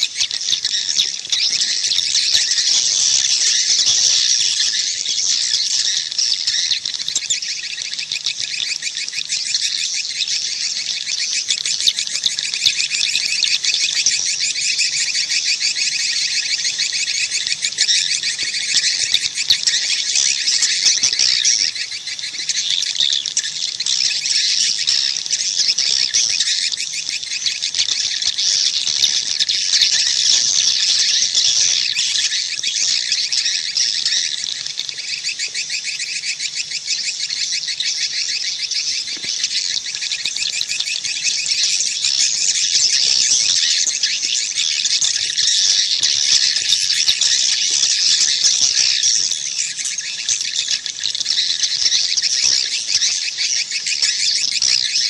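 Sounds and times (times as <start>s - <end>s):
swiftlets twittering: 0.0s - 55.0s.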